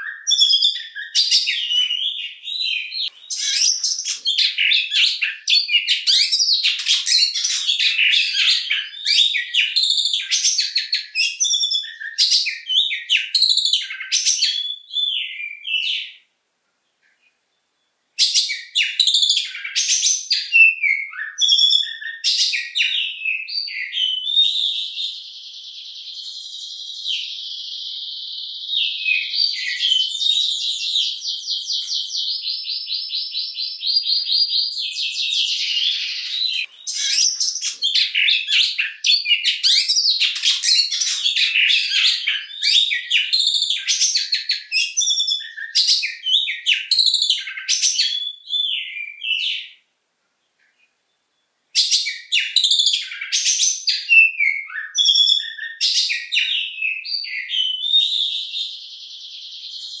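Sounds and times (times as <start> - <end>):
bird whistled phrases: 0.0 - 16.2, 18.2 - 49.8, 51.8 - 60.0.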